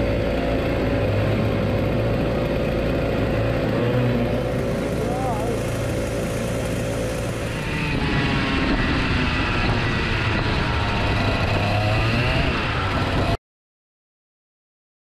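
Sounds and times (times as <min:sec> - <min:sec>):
kart engine running: 0:00.0 - 0:13.4.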